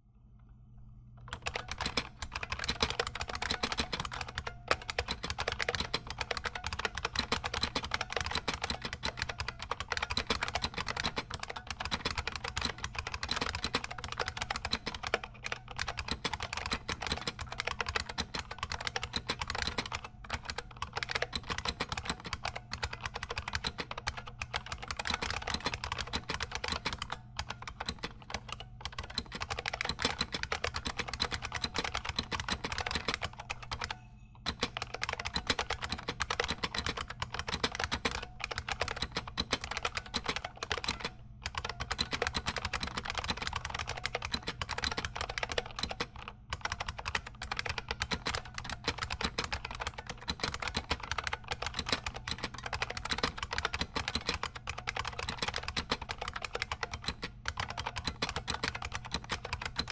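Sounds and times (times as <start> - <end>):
fast keyboard typing: 1.2 - 59.9.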